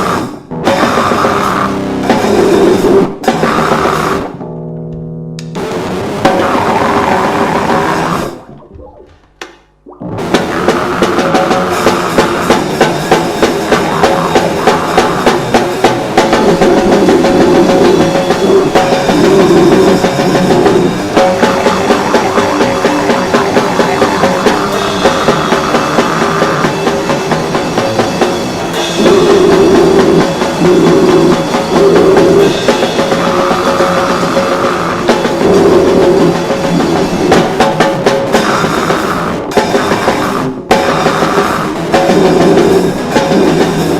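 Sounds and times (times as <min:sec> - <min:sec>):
rock band playing loudly: 0:00.0 - 0:04.4, 0:05.4 - 0:08.5, 0:10.0 - 0:43.9
drum kit hits: 0:00.0 - 0:43.9.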